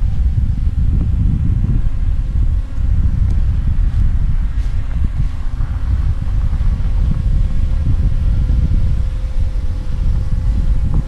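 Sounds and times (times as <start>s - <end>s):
drone propellers humming: 0.0s - 11.0s
wind buffeting microphone: 0.0s - 11.0s.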